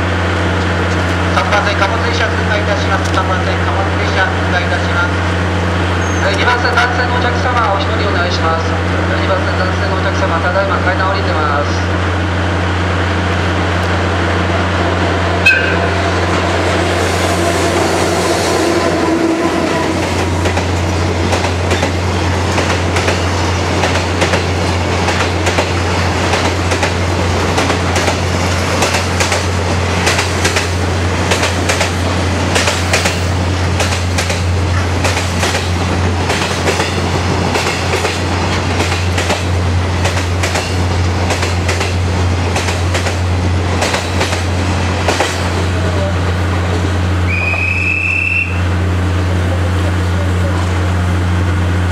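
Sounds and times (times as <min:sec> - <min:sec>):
freight train rumble: 0:00.0 - 0:51.9.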